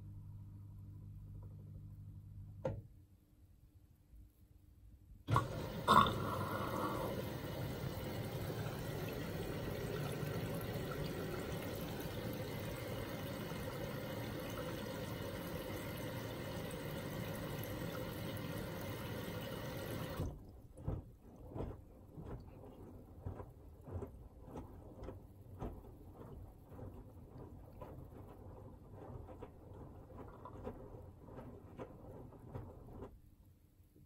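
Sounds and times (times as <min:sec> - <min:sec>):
water rushing into washing machine: 0:05.3 - 0:33.2.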